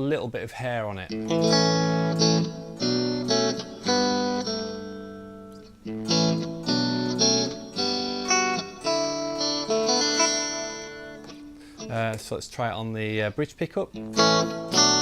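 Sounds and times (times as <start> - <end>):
electric guitar chords: 1.1 - 12.2, 13.9 - 15.0.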